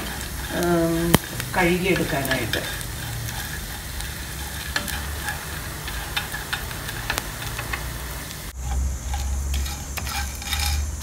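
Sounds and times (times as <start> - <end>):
prawns sizzling in a pan: 0.0 - 11.0
wooden spatula scraping a pan: 0.0 - 11.0.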